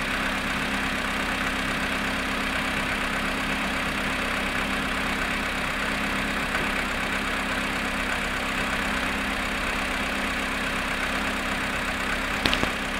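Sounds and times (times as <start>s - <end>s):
car engine idling: 0.0s - 12.9s
engine knock: 0.0s - 12.9s.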